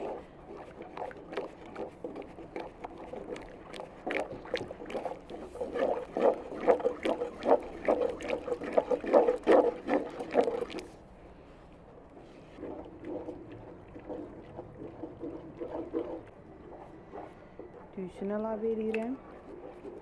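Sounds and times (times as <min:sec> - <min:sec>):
spoon sloshing thick soup: 0:00.0 - 0:11.0, 0:12.4 - 0:17.9.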